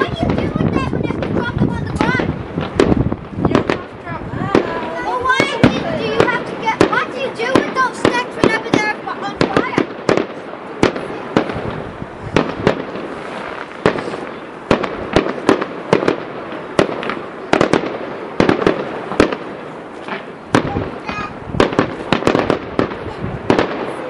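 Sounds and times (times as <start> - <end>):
continuous noisy wash: 0.0 - 24.0
fireworks bursting: 0.0 - 24.0.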